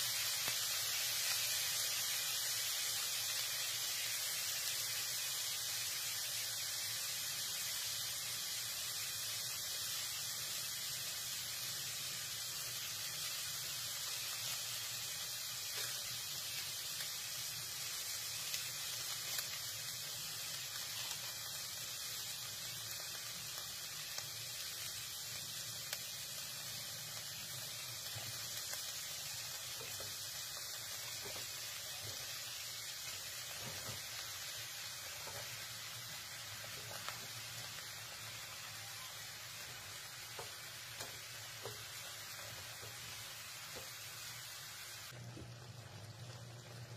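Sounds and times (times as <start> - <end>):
food sizzling in a hot pan: 0.0 - 46.9.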